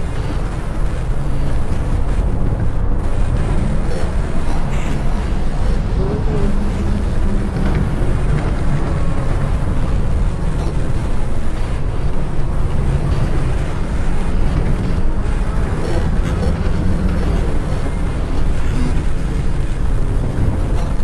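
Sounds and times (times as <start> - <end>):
dense low rumble: 0.0 - 21.0.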